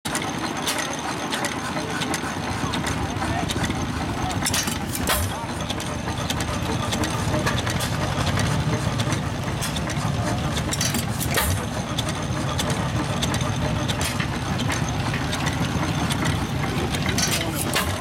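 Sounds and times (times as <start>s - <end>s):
scattered clicks: 0.1s - 18.0s
stationary engine running: 0.1s - 18.0s.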